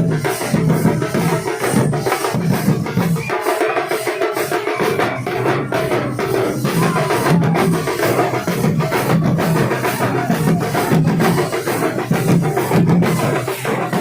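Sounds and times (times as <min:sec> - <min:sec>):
dhol drums fast rhythm: 0:00.0 - 0:14.0.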